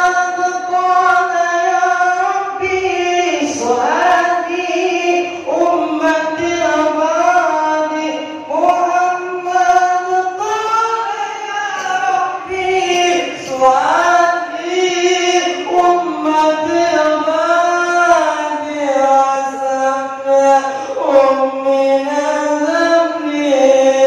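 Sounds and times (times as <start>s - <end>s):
solo voice chanting: 0.0s - 24.0s.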